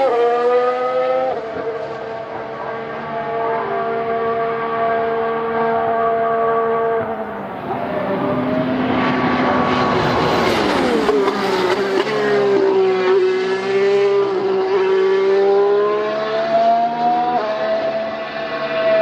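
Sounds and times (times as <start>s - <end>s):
racing car engine: 0.0s - 19.0s.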